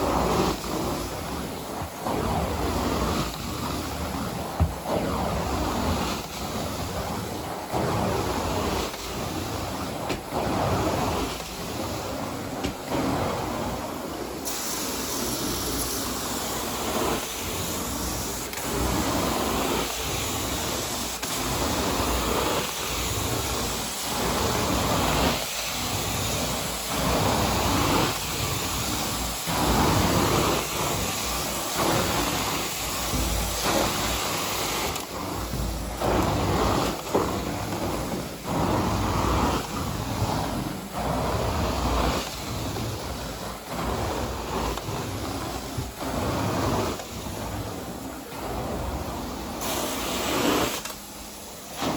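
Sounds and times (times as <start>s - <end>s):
carpet cleaning suction machine: 0.0s - 51.9s.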